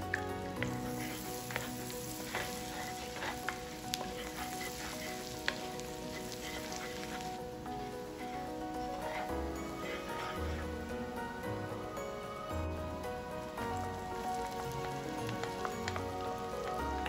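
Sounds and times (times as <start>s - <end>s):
background music: 0.0s - 17.0s
garlic sizzling in butter: 0.0s - 17.0s
wooden spatula stirring: 0.0s - 17.0s.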